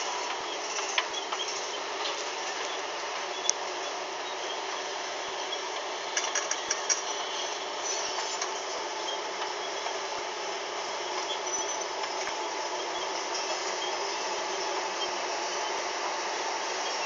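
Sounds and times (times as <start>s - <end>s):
steady machinery noise: 0.0s - 17.0s.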